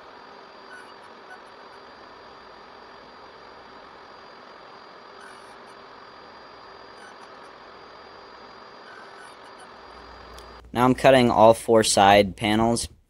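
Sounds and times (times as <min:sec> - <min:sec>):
workshop machine humming: 0:00.0 - 0:11.4.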